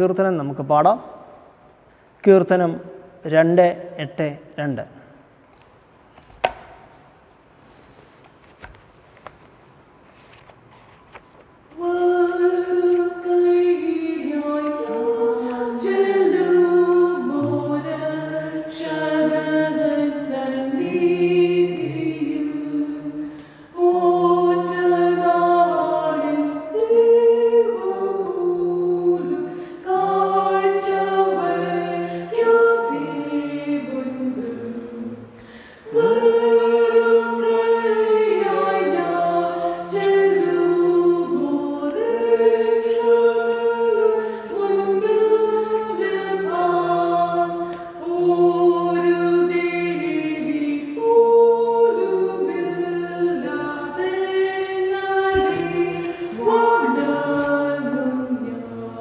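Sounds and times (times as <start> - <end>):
unaccompanied hymn singing: 10.1 - 59.0.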